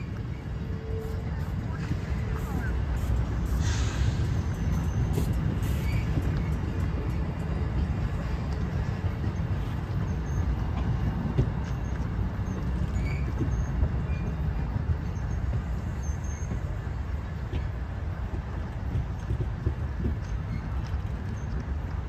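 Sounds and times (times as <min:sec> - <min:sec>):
diesel train rumbling past: 0:00.0 - 0:22.0.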